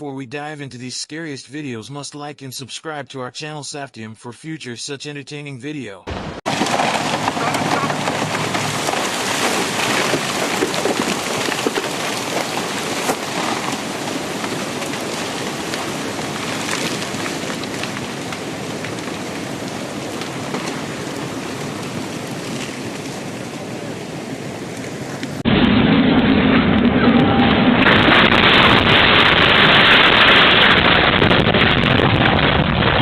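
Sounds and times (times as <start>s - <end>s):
heavy rain downpour: 6.5s - 33.0s.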